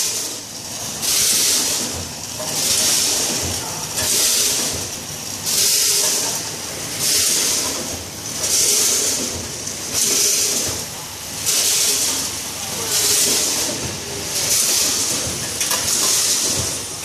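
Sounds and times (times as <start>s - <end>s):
machine running noise: 0.0s - 17.0s.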